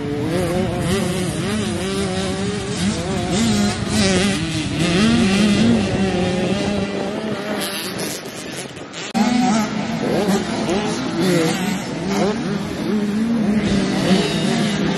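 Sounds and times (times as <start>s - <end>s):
motocross bike engines revving: 0.0s - 14.9s.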